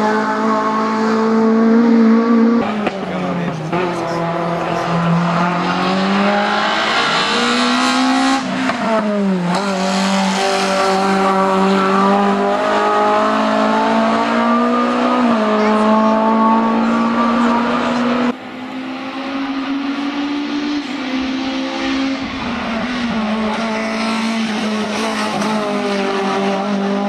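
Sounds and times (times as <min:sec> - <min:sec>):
race car engine revving high: 0:00.0 - 0:27.0.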